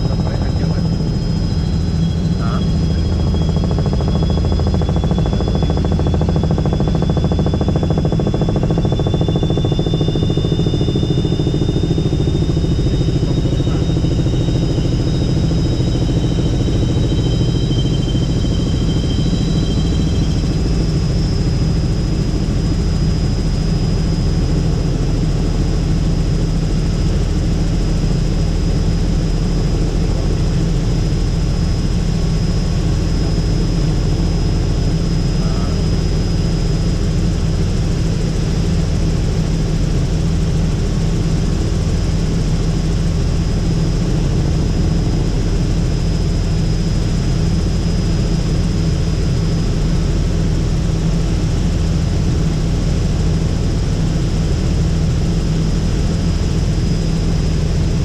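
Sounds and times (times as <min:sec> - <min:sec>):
faint turbine whine: 0:00.0 - 0:58.0
helicopter rotor and engine noise: 0:00.0 - 0:58.0.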